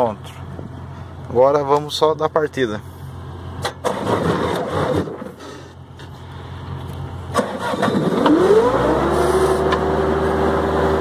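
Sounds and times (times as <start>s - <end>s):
diesel engine starting and running: 0.0s - 11.0s.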